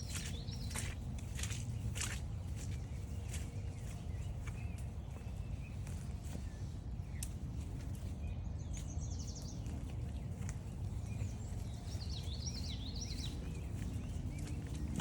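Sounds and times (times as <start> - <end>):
low rumble of walking: 0.0 - 15.0
songbirds singing: 0.0 - 15.0.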